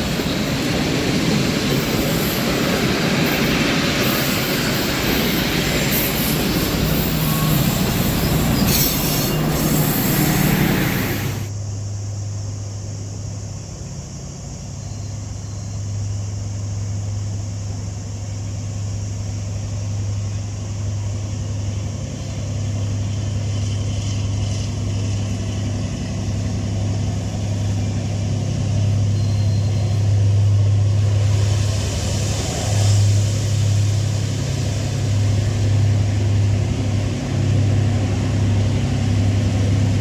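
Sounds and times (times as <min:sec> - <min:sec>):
large engine low hum: 0:04.6 - 0:40.0.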